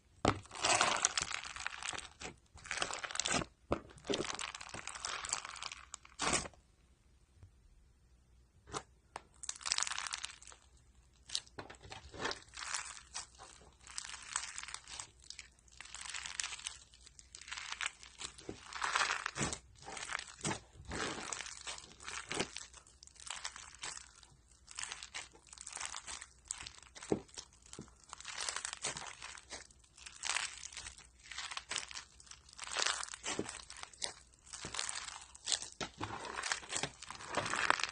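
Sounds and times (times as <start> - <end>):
slime crackling and popping: 0.2 - 6.5, 8.7 - 37.9.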